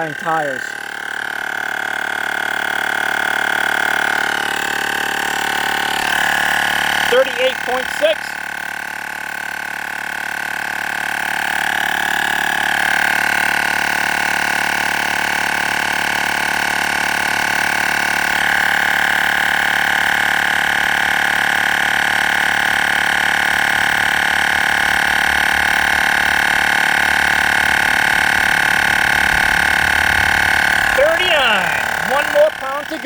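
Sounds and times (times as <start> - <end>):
air compressor whining: 0.0 - 33.0.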